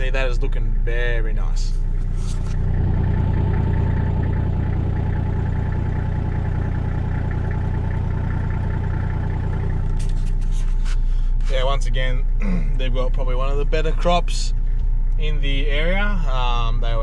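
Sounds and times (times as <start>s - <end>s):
engine idling inside cab: 0.0s - 17.0s.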